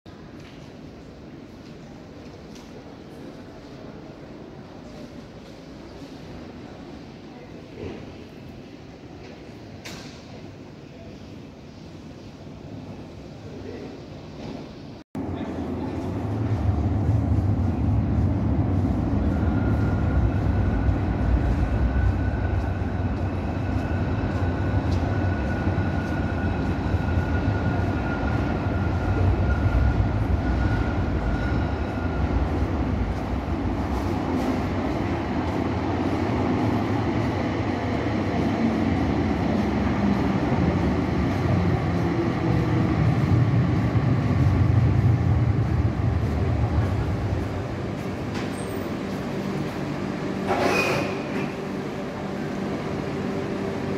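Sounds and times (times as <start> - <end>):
tram rumbling: 0.1 - 53.9.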